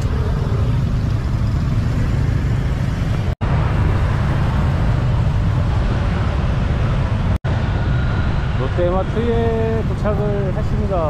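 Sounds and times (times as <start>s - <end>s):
motorbike and car traffic rumble: 0.0s - 11.0s.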